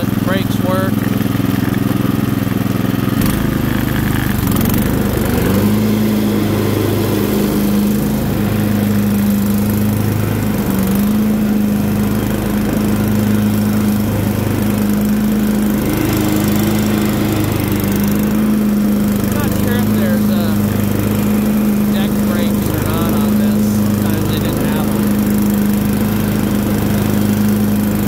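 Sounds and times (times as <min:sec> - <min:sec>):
riding mower engine running: 0:00.0 - 0:28.0.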